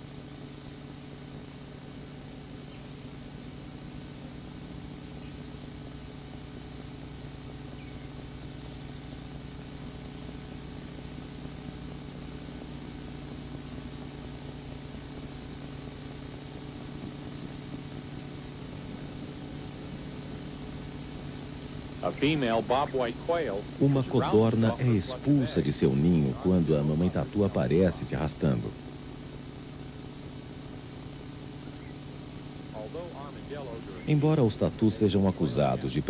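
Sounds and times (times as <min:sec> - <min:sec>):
faint high whine: 0:00.0 - 0:36.0
low electrical hum: 0:00.0 - 0:36.0
tape hiss: 0:00.0 - 0:36.0.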